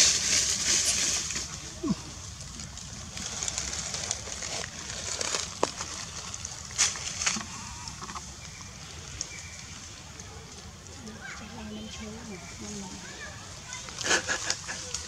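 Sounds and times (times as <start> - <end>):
dry leaves rustling and crackling: 0.0 - 15.0
high outdoor hiss: 0.0 - 15.0.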